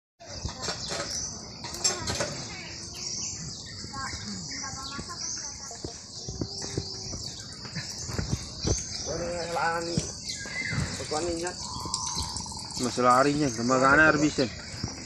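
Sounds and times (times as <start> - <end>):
faint chirps: 0.2 - 15.0
insects chorus: 0.2 - 15.0.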